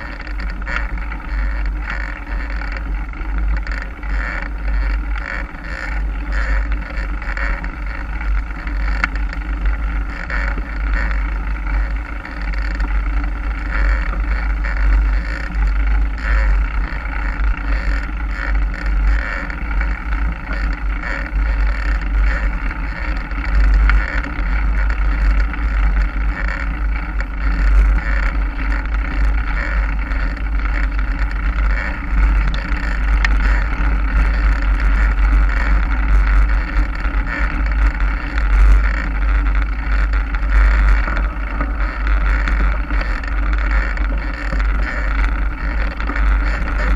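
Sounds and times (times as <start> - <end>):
bike rolling on trail: 0.0 - 46.9.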